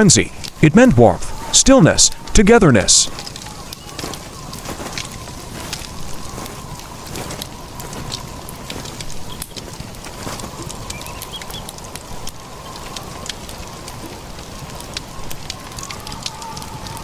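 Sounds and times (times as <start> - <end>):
steady hiss: 0.0 - 17.0
sharp crackling clicks: 0.2 - 17.0.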